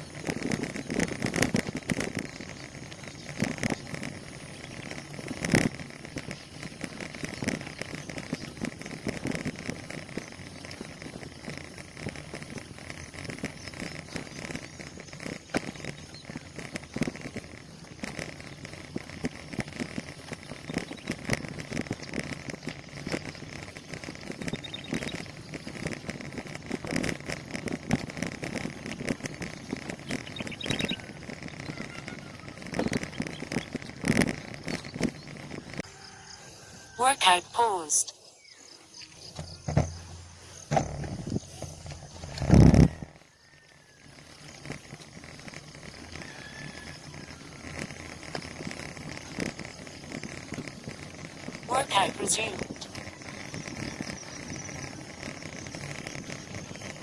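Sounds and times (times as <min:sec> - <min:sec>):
bicycle rattling and clicking: 0:00.0 - 0:37.0, 0:38.2 - 0:51.7, 0:52.6 - 0:57.0
bicycle tyres rolling on road: 0:00.0 - 0:37.0, 0:38.1 - 0:51.7, 0:52.5 - 0:57.0.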